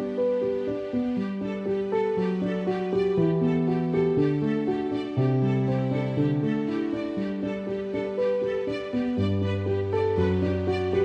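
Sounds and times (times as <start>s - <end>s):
slow soft instrumental music: 0.0s - 11.0s.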